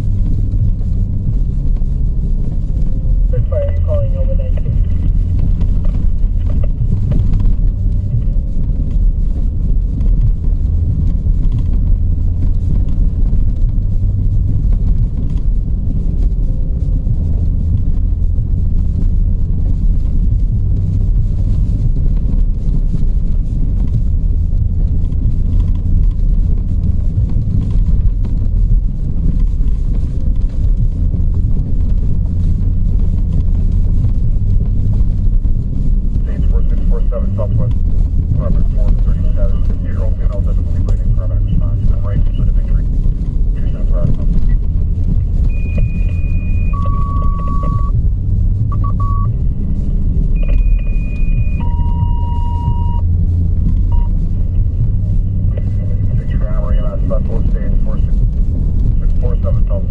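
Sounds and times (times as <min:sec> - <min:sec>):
motor vehicle rumble: 0:00.0 - 0:59.9.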